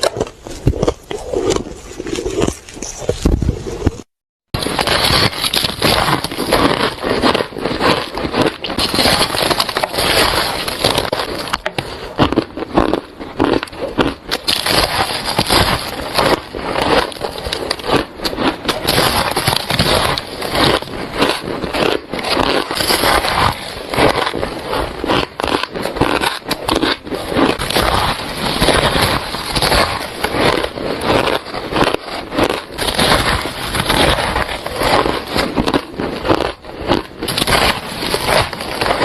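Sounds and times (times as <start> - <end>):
ice crunching being bitten: 0.0 - 39.0.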